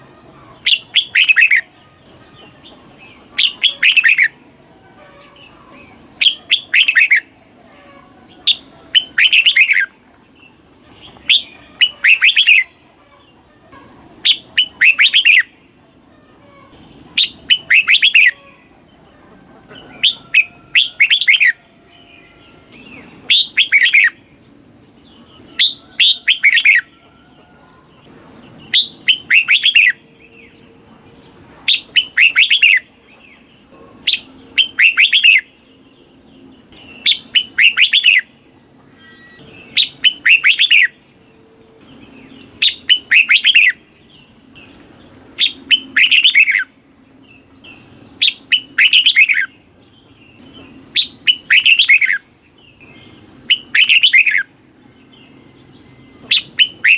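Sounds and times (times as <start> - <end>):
bulbul singing: 0.0 - 56.9.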